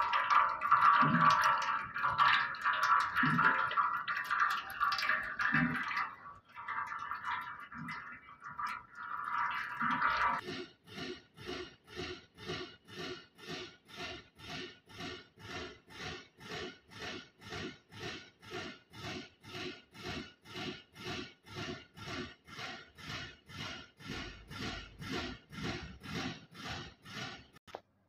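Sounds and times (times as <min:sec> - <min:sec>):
air-operated oil pump pulsing: 0:00.0 - 0:27.8.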